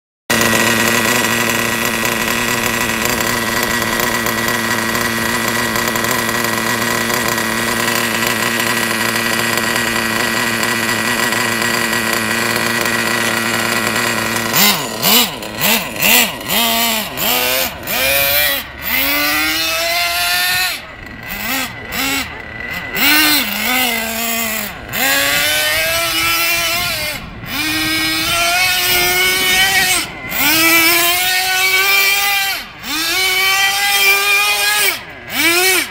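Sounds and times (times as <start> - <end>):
model truck engine revving: 0.3 - 35.9.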